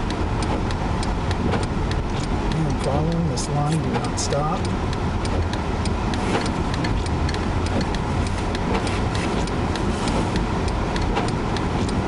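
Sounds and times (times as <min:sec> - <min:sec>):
rapid regular ticking: 0:00.0 - 0:12.0
vehicle rumble from inside cabin: 0:00.0 - 0:12.0.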